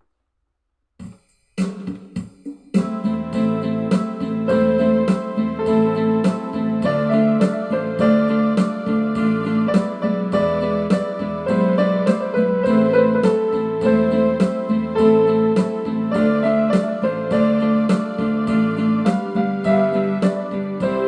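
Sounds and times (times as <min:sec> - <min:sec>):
electric keyboard playing chords: 0:02.8 - 0:21.0.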